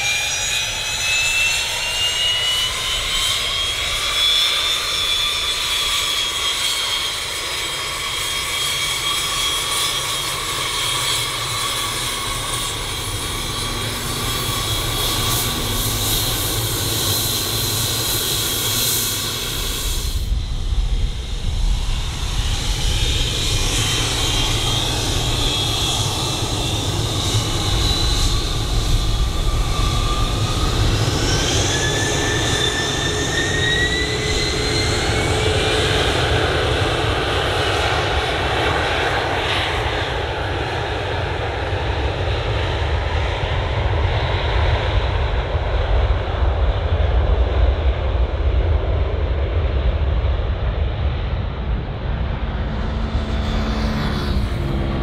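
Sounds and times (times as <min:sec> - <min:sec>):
jet engines roaring and whining: 0:00.0 - 0:55.0.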